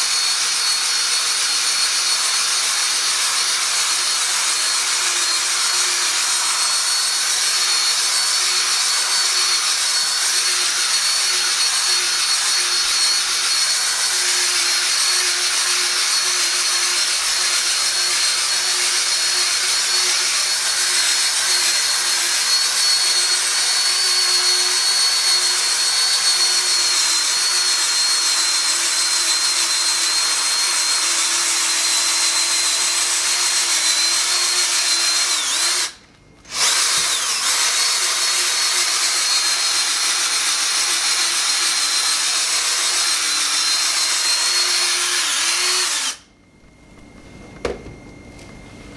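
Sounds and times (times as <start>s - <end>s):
power drill motor whine: 0.0s - 48.5s.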